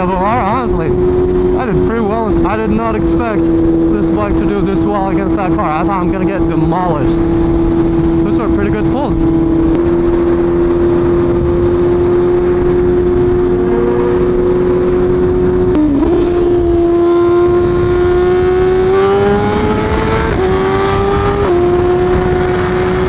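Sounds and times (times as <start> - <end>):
motorcycle engine running: 0.0 - 23.0
wind noise: 0.0 - 23.0.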